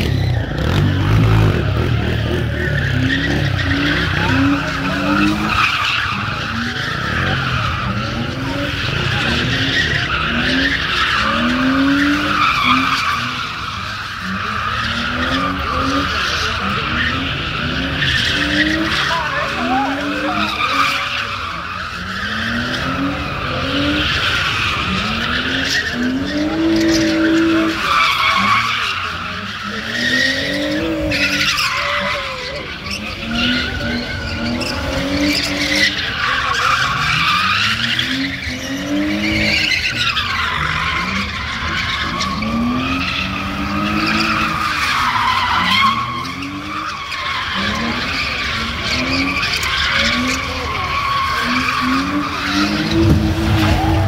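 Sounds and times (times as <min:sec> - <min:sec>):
car engine revving: 0:00.0 - 0:54.0
tyres squealing: 0:00.0 - 0:54.0.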